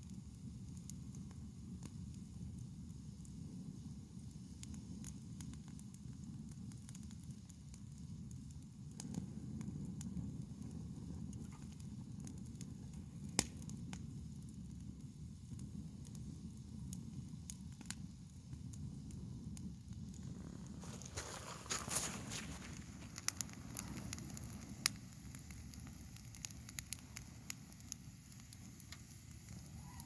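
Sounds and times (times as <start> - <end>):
low steady fire rumble: 0.0 - 30.0
wood crackling and popping: 0.0 - 30.0.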